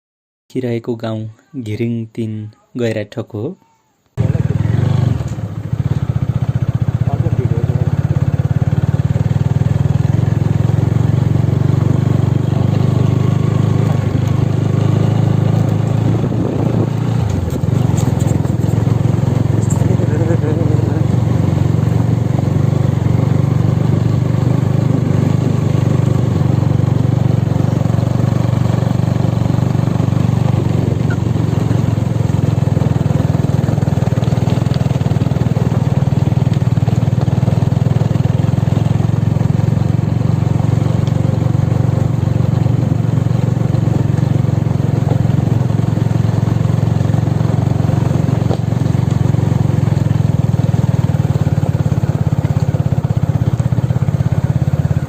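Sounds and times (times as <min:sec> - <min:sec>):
motorcycle engine running: 0:04.2 - 0:55.0
road noise: 0:04.2 - 0:55.0.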